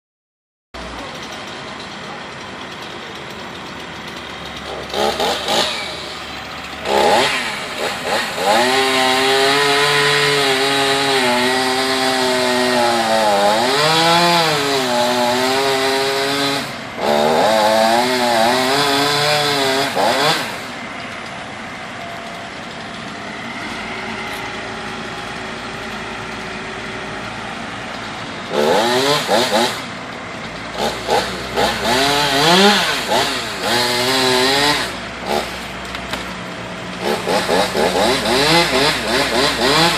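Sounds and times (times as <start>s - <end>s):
chainsaw revving and cutting wood: 0.8s - 39.9s.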